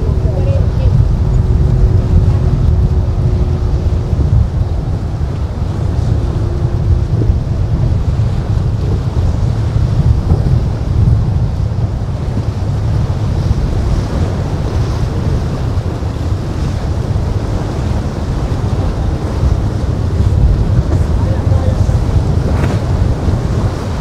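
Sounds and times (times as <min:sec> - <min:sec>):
waves and surf: 0:00.0 - 0:24.0
wind buffeting microphone: 0:00.0 - 0:24.0.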